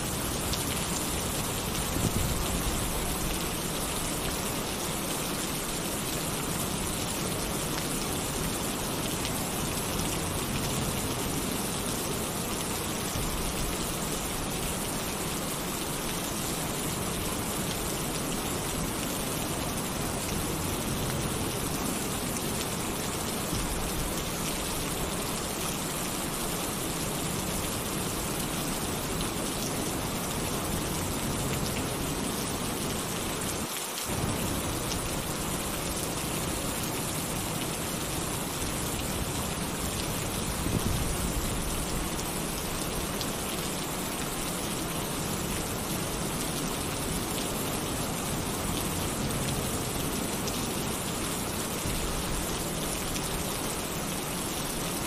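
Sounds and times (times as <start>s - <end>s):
heavy rain on a tin roof: 0.0s - 55.0s.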